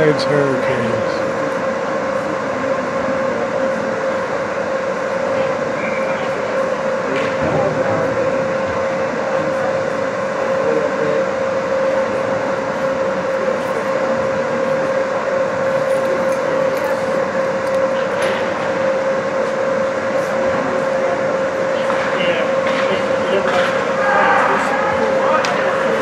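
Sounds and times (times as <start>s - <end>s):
machinery drone with held tone: 0.0s - 26.0s.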